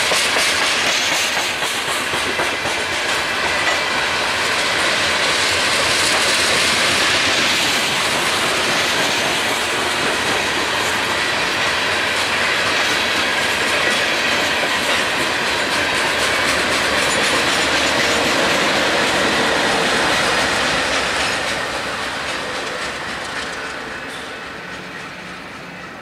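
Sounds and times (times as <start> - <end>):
diesel locomotive passing: 0.0 - 26.0
steel wheels clattering on rails: 0.0 - 26.0.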